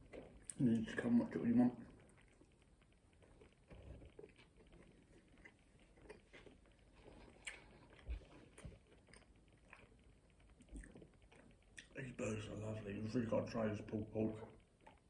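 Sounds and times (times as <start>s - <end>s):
people chewing food: 0.0s - 15.0s.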